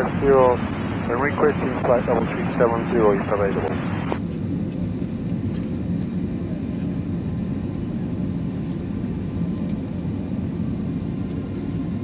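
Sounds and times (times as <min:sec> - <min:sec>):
aircraft cabin rumble: 0:00.0 - 0:12.0
faint steady whines: 0:00.0 - 0:12.0.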